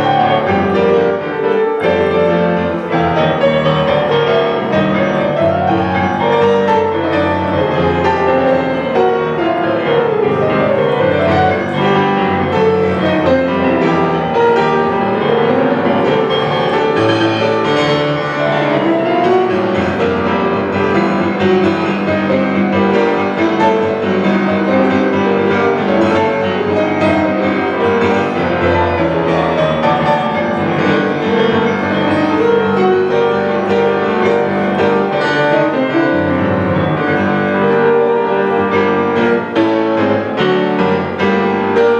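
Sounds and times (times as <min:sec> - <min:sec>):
solo piano waltz: 0:00.0 - 0:41.9.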